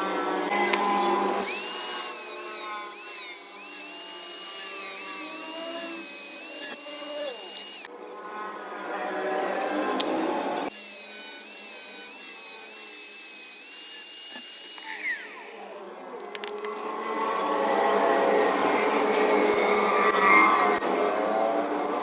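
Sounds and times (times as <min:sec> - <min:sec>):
power tool whining on metal: 0:00.0 - 0:07.9, 0:09.3 - 0:22.0.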